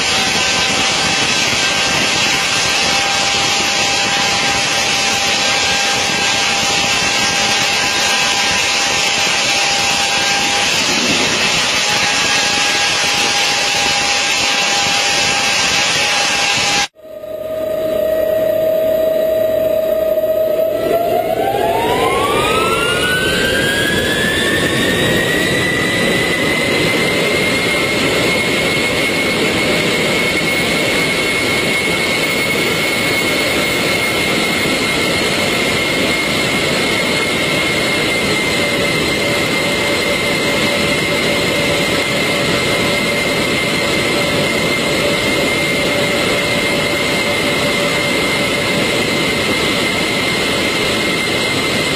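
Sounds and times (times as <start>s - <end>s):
jet engines spooling up: 0.0s - 51.9s.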